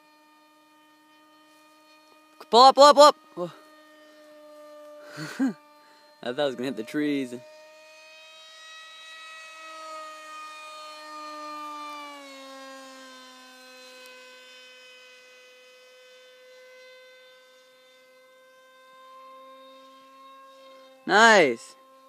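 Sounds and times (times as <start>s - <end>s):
rc jet motor whining: 0.0s - 22.0s.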